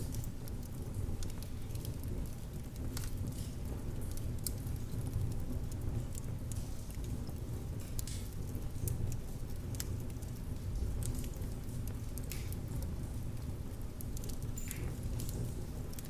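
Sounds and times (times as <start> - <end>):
fire crackling in a fireplace: 0.0 - 16.0.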